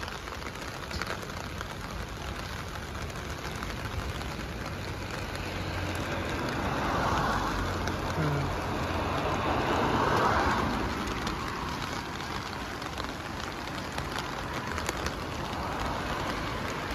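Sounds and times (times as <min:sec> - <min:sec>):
rain on foliage and pavement: 0:00.0 - 0:16.9.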